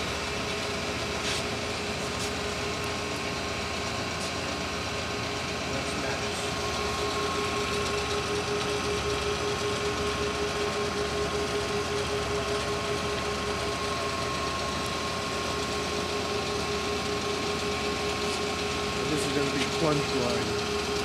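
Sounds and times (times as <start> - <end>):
grinder machine hum: 0.0 - 21.0.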